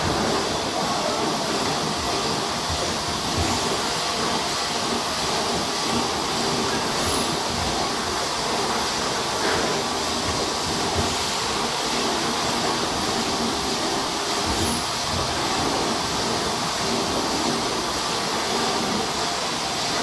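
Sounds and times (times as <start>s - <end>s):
bottle filling machinery running: 0.0s - 20.0s.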